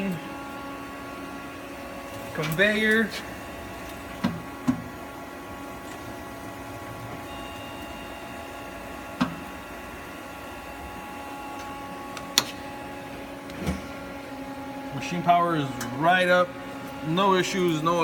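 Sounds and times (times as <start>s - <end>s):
lathe machine hum: 0.0s - 18.0s.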